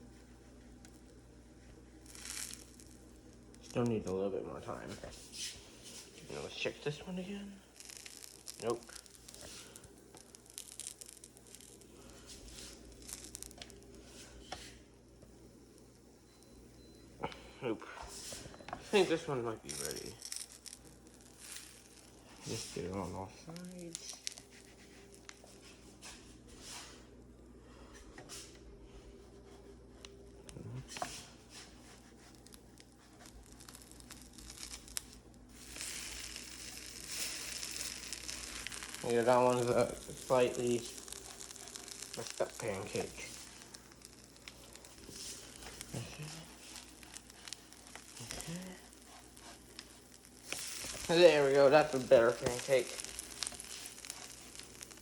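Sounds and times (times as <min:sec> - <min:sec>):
pancakes crackling in a pan: 0:00.0 - 0:28.5, 0:29.2 - 0:55.0.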